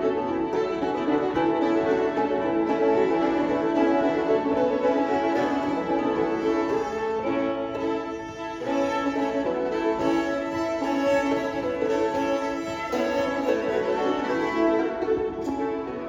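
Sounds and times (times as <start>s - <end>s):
banjo accompaniment: 0.0s - 16.0s
fiddles playing: 0.0s - 16.0s.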